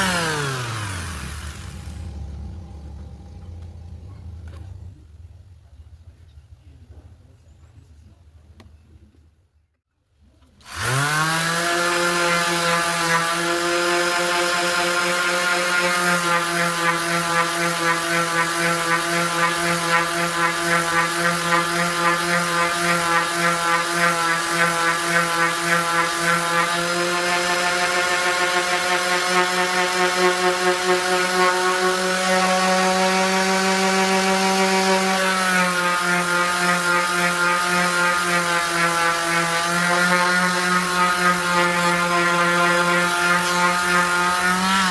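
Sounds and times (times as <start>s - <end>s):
orbital sander humming: 0.0s - 4.4s, 10.6s - 44.9s.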